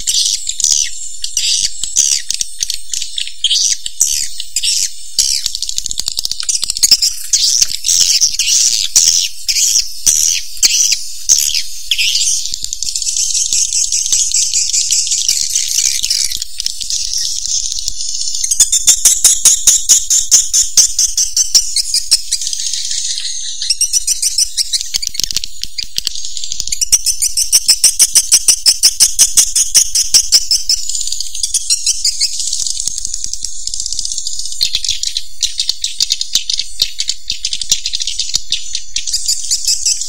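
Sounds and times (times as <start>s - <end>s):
swiftlets chirping and twittering: 0.0s - 40.0s.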